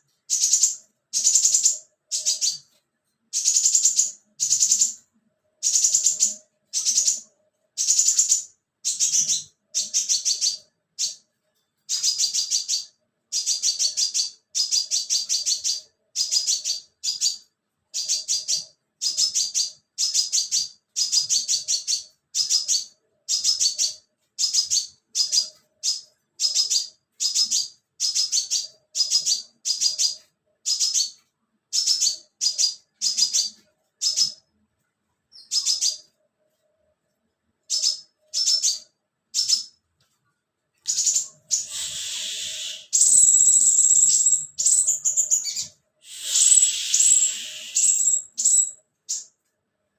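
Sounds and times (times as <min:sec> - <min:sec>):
bird high-pitched chirping: 0:00.0 - 0:34.6, 0:35.3 - 0:36.2, 0:37.6 - 0:39.8, 0:40.8 - 0:49.4.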